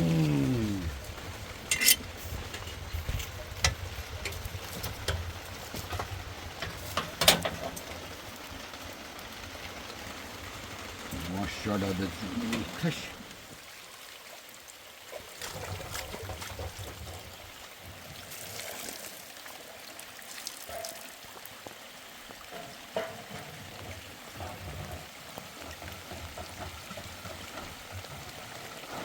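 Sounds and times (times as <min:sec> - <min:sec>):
steady rain: 0:00.0 - 0:29.0
water trickling and running: 0:00.0 - 0:29.0.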